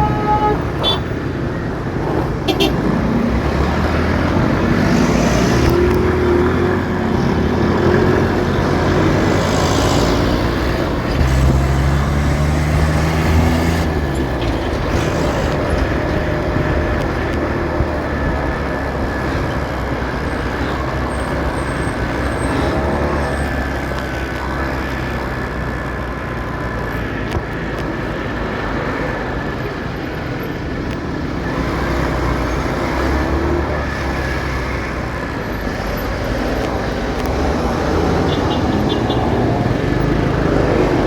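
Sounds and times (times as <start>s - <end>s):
heavy vehicle engine drone: 0.0s - 41.0s
road noise: 0.0s - 41.0s.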